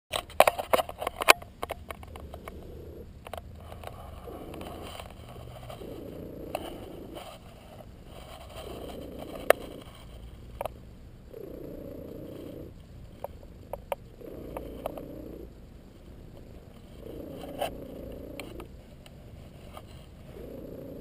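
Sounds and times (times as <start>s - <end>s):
cat purring: 0.7s - 21.0s.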